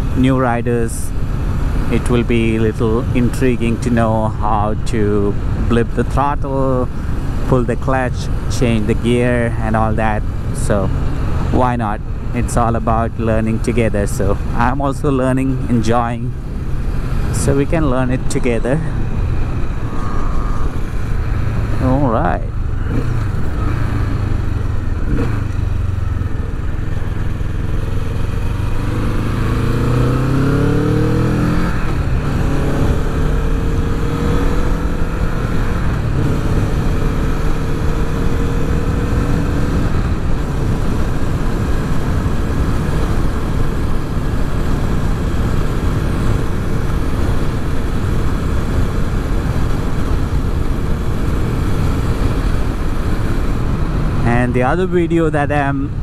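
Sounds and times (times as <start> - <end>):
motorcycle engine accelerating: 10.0 - 56.0.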